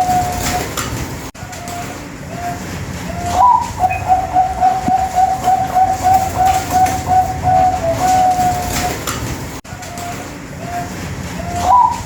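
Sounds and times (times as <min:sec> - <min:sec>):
dove cooing: 0:00.0 - 0:00.7, 0:01.5 - 0:09.2, 0:09.9 - 0:12.0.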